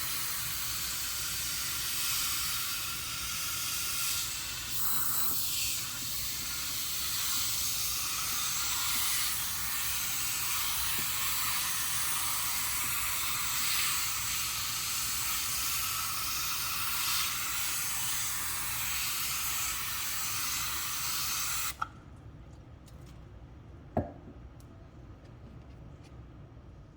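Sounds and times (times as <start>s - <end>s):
spray can hissing: 0.0s - 21.8s.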